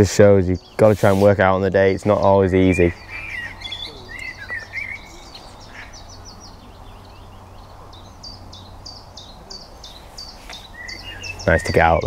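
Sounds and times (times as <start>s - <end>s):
songbird singing high notes: 0.0s - 12.0s.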